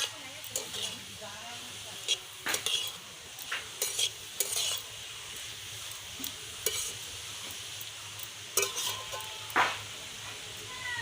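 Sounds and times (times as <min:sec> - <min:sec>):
spatula scraping a pan: 0:00.0 - 0:07.6, 0:08.5 - 0:09.8
soft frying sizzle: 0:00.0 - 0:11.0.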